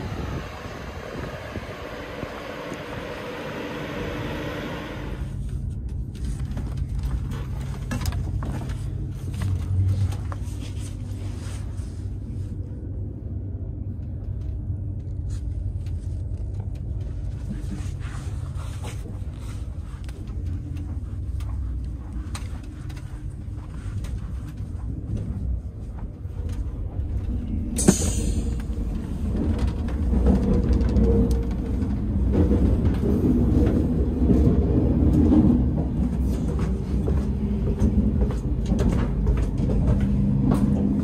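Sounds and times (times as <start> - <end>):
train interior rumble: 0.0 - 41.0.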